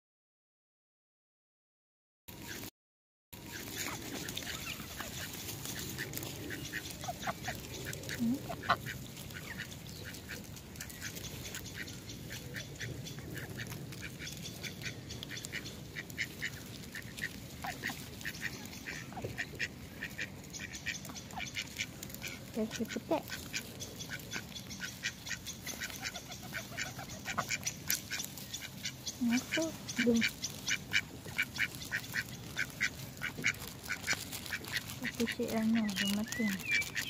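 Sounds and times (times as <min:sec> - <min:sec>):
duck quacking: 0:03.5 - 0:37.0.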